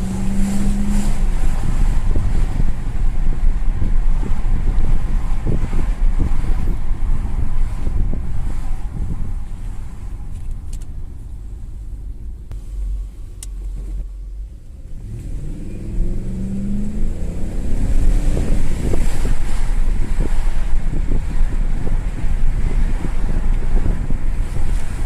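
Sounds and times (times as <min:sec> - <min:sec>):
car engine accelerating: 0:00.0 - 0:25.0
road rumble: 0:00.0 - 0:25.0.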